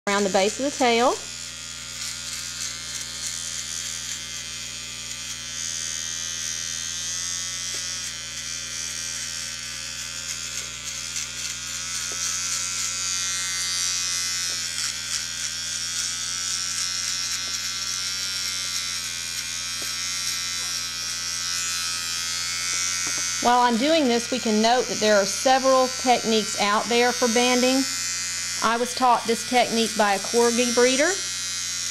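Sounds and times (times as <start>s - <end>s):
electric clippers buzzing: 0.0s - 31.9s.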